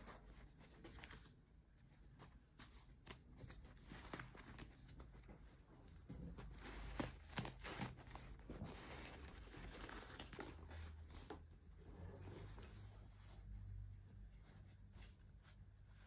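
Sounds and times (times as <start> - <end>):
cardboard and fabric rustling: 0.0 - 16.0.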